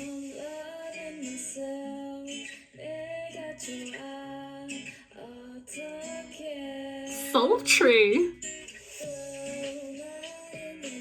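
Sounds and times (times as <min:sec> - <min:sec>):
acoustic guitar: 0:00.0 - 0:11.0
women singing: 0:00.0 - 0:11.0.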